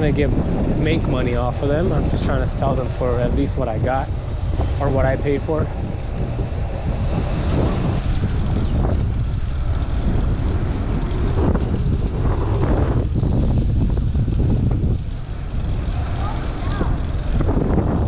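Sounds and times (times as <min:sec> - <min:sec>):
low rumble of passing traffic: 0:00.0 - 0:18.0
wind buffeting microphone: 0:00.0 - 0:18.0.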